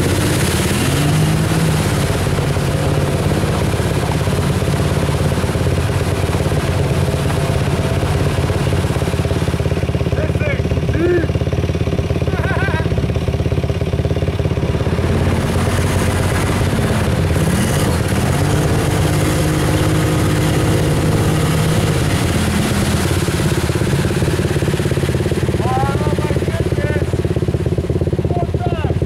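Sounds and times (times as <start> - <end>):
atv engine revving: 0.0 - 29.0
wheels spinning in mud: 0.0 - 29.0.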